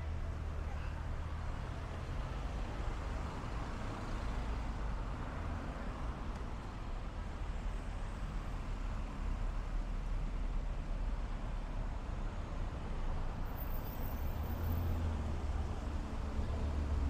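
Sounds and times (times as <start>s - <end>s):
cars passing with tyre noise: 0.0s - 17.0s.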